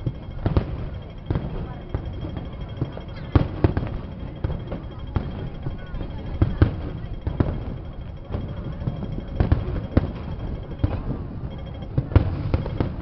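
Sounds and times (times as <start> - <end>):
firework shells banging: 0.0 - 13.0
low continuous rumble: 0.0 - 13.0.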